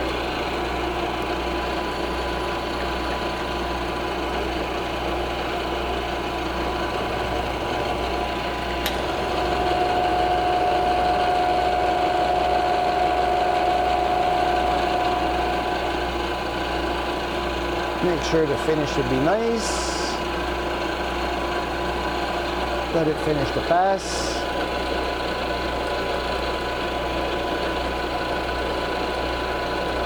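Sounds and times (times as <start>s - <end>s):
milling machine whine: 0.0s - 30.0s.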